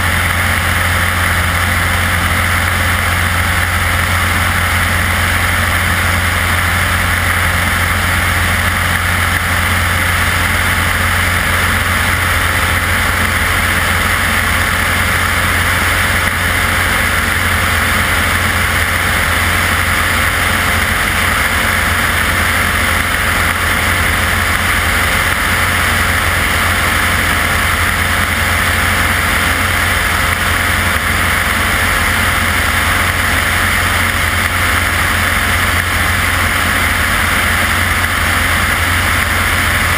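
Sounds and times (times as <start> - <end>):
aircraft propeller engine droning: 0.0 - 39.9.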